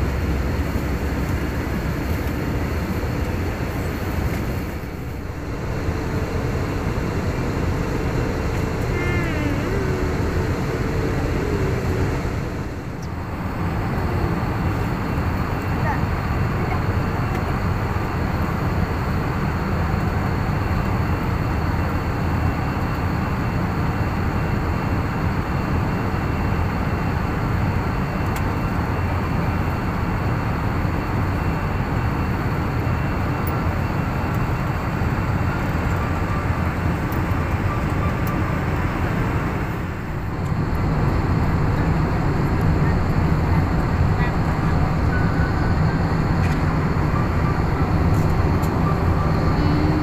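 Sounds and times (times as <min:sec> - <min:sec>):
airplane cabin rumble: 0:00.0 - 0:50.0.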